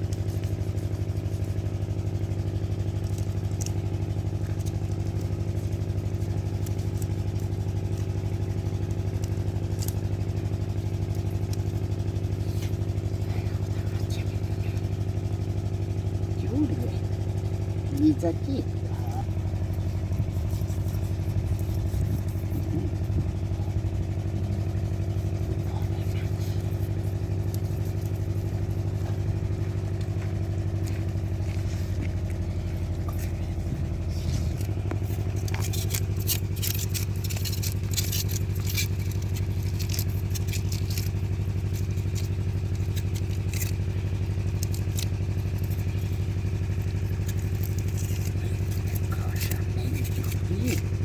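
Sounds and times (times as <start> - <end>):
engine running steadily: 0.0 - 51.0
clicks and light clatter: 0.1 - 16.4, 17.0 - 51.0.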